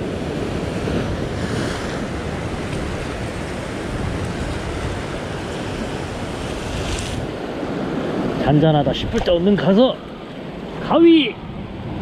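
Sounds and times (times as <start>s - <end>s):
sea waves breaking on rocks: 0.0s - 11.2s.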